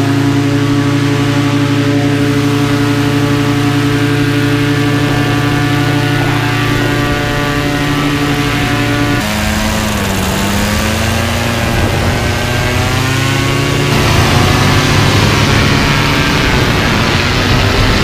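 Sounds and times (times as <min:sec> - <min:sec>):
paramotor engine and propeller: 0:00.0 - 0:18.0.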